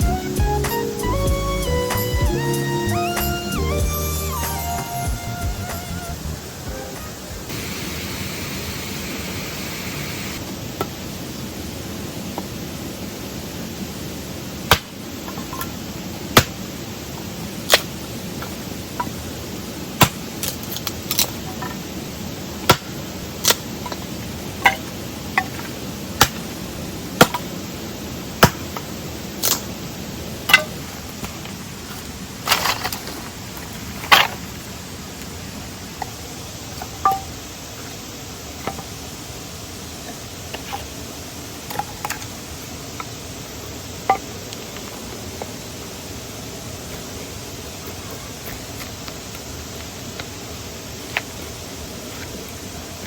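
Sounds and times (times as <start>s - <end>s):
steady rushing noise: 4.8s - 53.0s.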